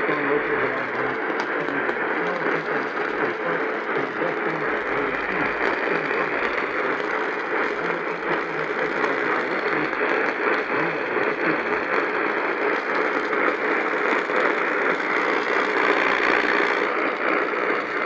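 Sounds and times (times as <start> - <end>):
radio static hiss and crackle: 0.0 - 18.0.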